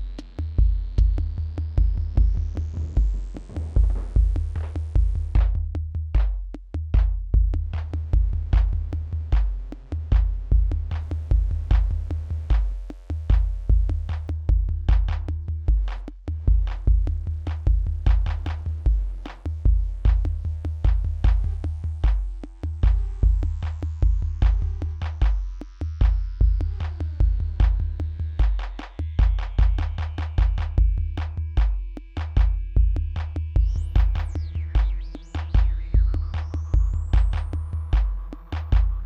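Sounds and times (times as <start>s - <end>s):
synth bass tones: 0.0s - 5.9s, 7.3s - 39.0s
low kick drum pattern: 0.0s - 39.0s.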